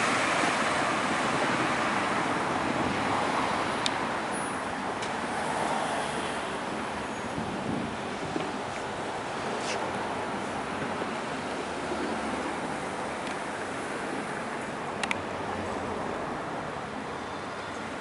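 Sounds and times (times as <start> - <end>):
passing cars rushing: 0.0 - 17.0.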